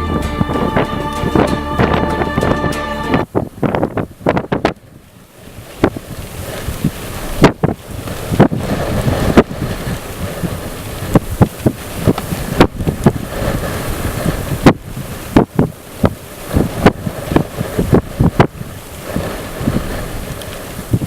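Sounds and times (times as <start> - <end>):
strong storm wind rushing: 0.0 - 21.0
wind gusts buffeting microphone: 0.0 - 21.0.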